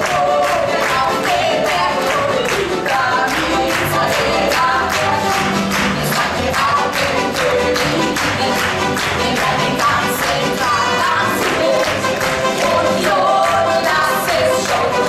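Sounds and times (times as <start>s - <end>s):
live band playing upbeat song: 0.0s - 15.0s
women singing: 0.0s - 15.0s.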